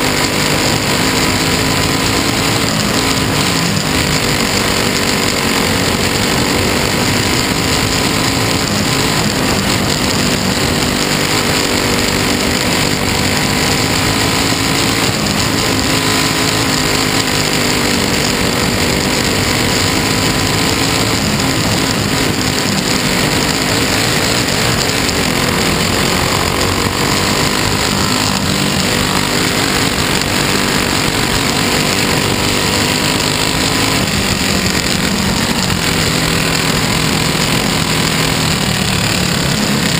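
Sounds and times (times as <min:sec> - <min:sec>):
race car engine under load: 0:00.0 - 0:39.9.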